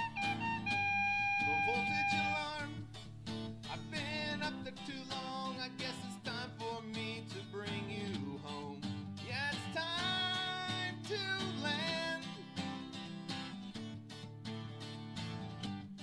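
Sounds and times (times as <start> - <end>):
country song with guitar: 0.0 - 16.0.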